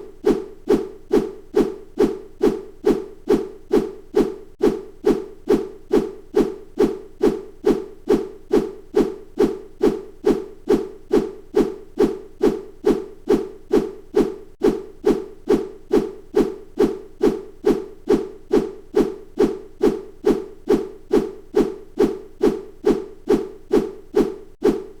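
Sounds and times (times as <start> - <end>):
bamboo swishing through air: 0.0 - 25.0.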